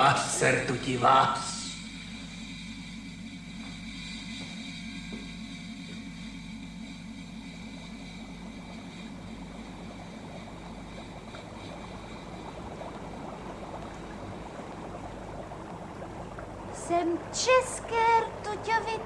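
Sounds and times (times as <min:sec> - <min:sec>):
liquid bubbling in a glass flask: 0:00.0 - 0:19.0.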